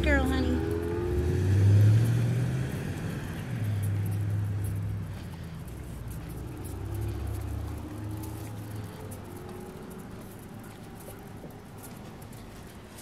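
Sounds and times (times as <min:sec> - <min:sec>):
car engine rumble: 0:00.0 - 0:13.0.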